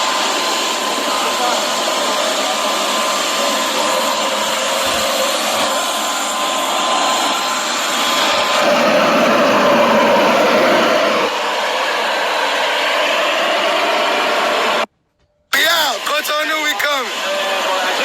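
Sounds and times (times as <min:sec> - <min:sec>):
jet engines running: 0:00.0 - 0:14.9, 0:15.6 - 0:18.0.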